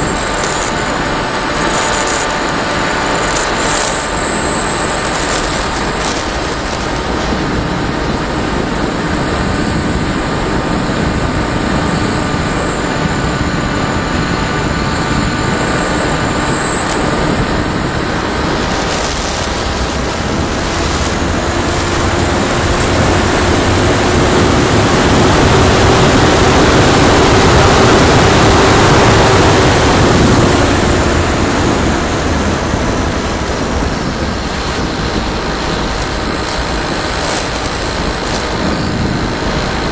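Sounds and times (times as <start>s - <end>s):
glider motor and propeller: 0.0s - 39.9s
high motor whine: 0.0s - 39.9s
wind rush on microphone: 0.0s - 39.9s.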